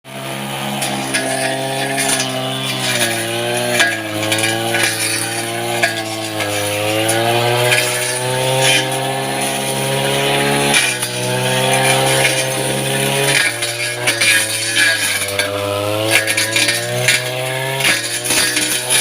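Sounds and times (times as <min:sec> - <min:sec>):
grass cutter engine running: 0:00.1 - 0:19.0.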